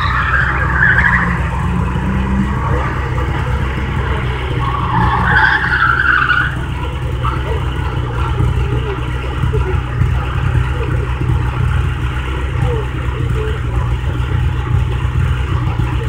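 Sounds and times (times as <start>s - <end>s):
car engine rumbling: 0.0s - 16.0s
tyres squealing: 0.0s - 16.0s.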